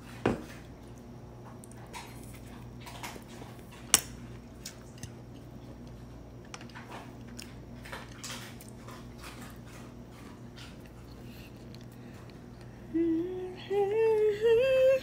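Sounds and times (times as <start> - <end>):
steady low hum: 0.0 - 15.0
soft chewing: 0.8 - 12.9.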